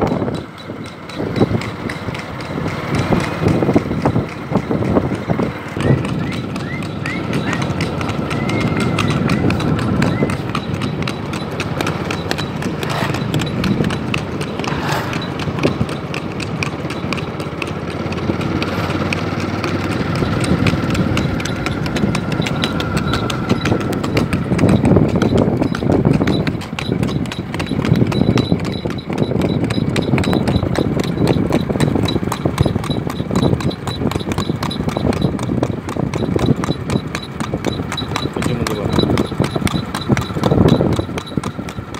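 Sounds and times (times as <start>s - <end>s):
horse hooves clip-clopping on road: 0.0s - 41.9s.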